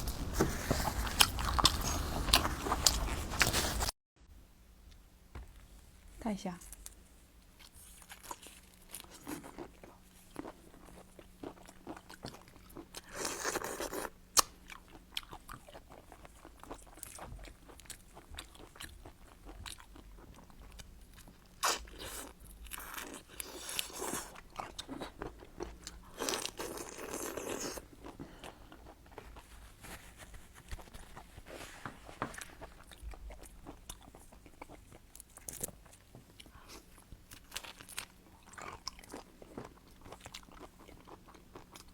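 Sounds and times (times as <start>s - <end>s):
seafood being chewed: 0.0s - 3.9s, 6.8s - 41.9s.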